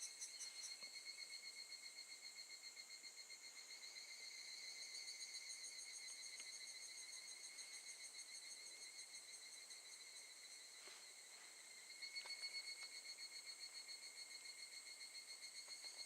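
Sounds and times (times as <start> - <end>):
cicadas trilling: 0.0 - 16.0.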